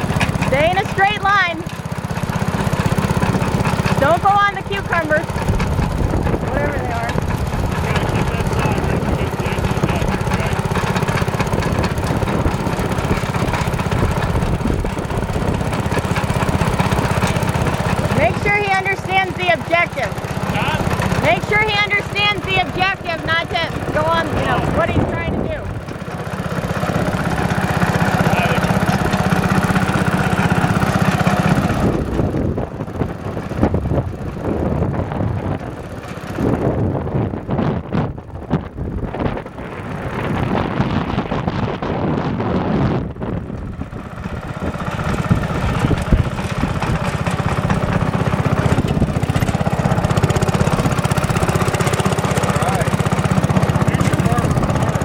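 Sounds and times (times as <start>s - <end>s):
small tractor engine chugging: 0.0s - 55.0s.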